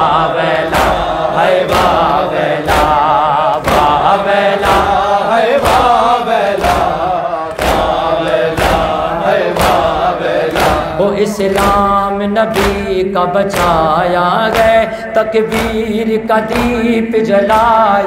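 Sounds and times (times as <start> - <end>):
men beating chests in unison: 0.0 - 18.0
men singing a lament: 0.0 - 18.0.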